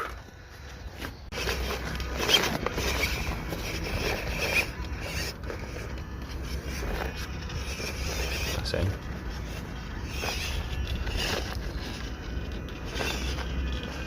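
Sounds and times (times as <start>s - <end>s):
tyres crunching on gravel: 0.0s - 14.0s.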